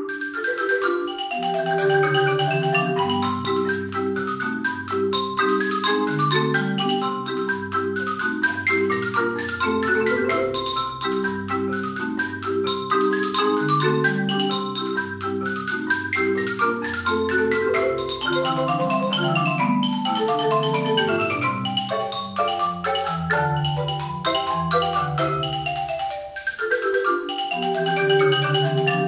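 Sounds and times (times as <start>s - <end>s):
marimba ensemble playing: 0.0s - 29.0s.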